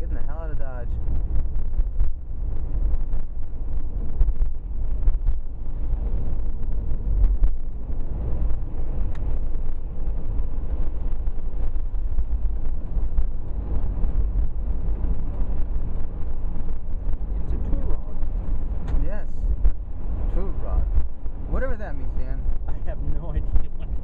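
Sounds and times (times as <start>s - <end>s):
road and engine rumble: 0.0s - 24.0s.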